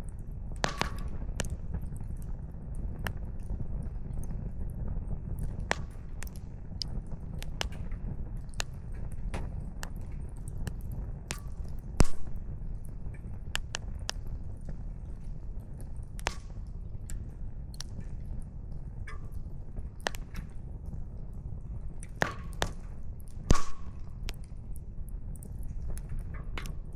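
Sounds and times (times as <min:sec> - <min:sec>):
campfire crackling: 0:00.1 - 0:26.9
firewood popping: 0:00.6 - 0:21.1, 0:21.9 - 0:26.9.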